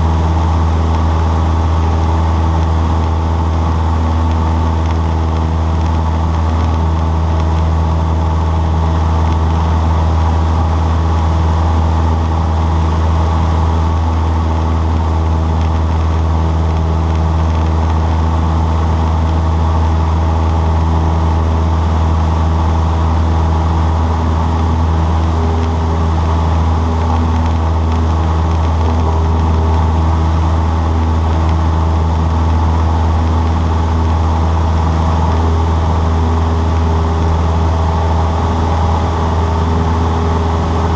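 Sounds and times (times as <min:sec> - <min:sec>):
airplane engine and propeller drone: 0:00.0 - 0:40.9.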